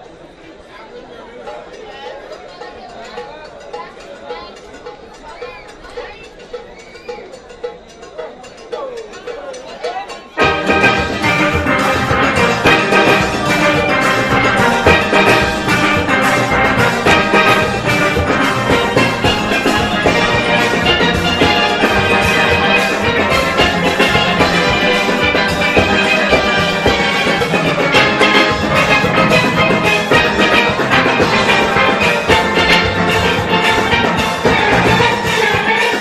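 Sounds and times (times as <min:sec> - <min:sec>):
drums and percussion: 0:01.4 - 0:36.0
steel band playing: 0:03.1 - 0:36.0.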